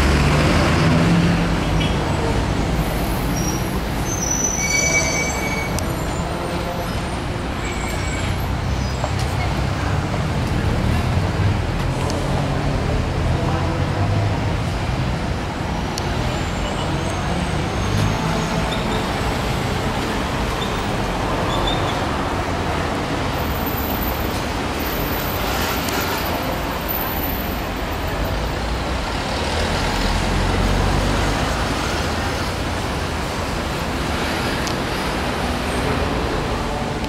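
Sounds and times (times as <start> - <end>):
street traffic noise: 0.0 - 37.0.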